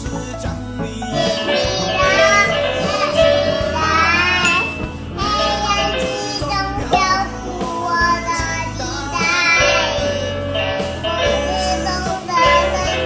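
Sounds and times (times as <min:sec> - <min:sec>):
backing track with bass: 0:00.0 - 0:13.0
girl singing: 0:01.1 - 0:13.0.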